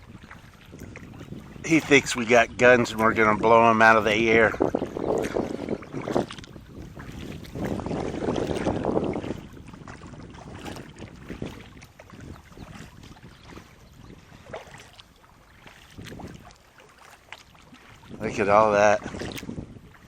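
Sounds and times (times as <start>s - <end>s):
rushing water and wind: 0.0s - 20.0s
water knocking against hull: 0.0s - 20.0s.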